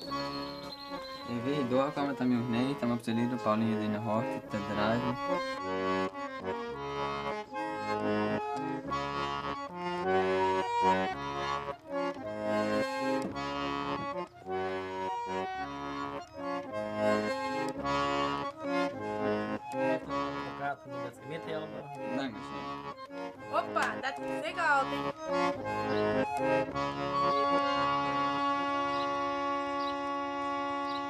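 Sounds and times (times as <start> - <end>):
accordion playing dance tune: 0.0 - 31.0.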